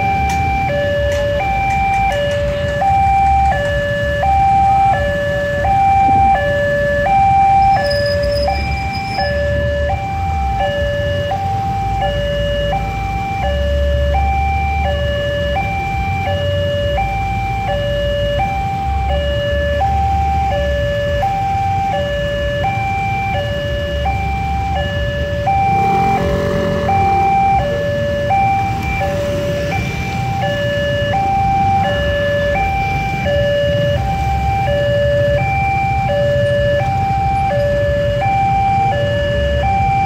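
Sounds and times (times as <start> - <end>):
motorcycle engines rumbling: 0.0 - 40.0
two-tone level crossing alarm: 0.0 - 40.0.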